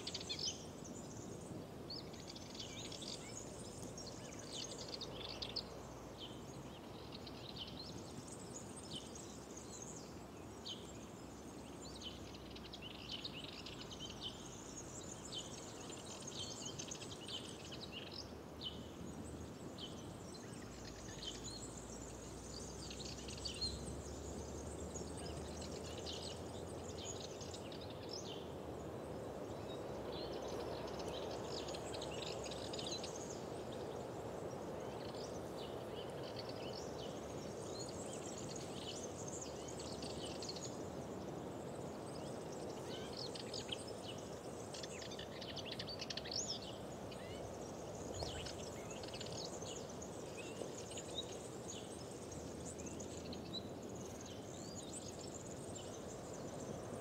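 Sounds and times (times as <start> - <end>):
rush of wind or water: 0.0 - 57.0
songbirds chirping and trilling: 0.0 - 57.0.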